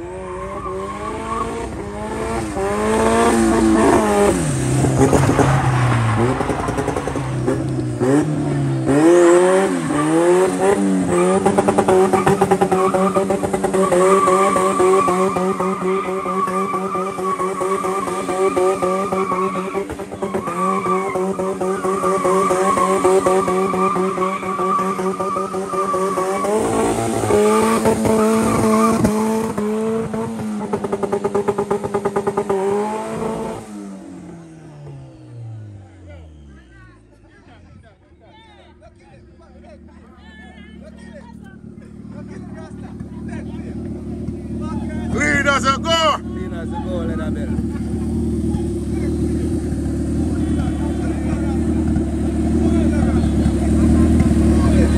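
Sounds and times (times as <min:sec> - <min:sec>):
car engine revving: 0:00.0 - 0:36.5, 0:40.8 - 0:54.9.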